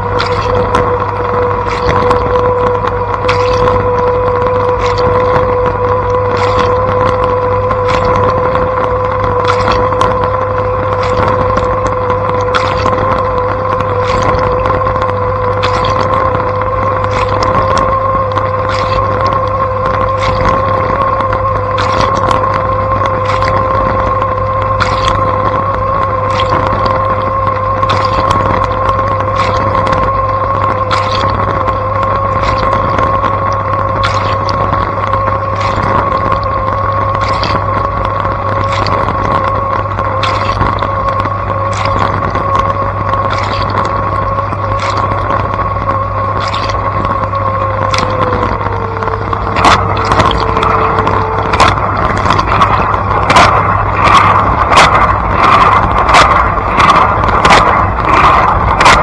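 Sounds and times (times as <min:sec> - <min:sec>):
dishwasher pump motor whine: 0:00.0 - 0:59.0
water spraying with ticks: 0:00.0 - 0:59.0.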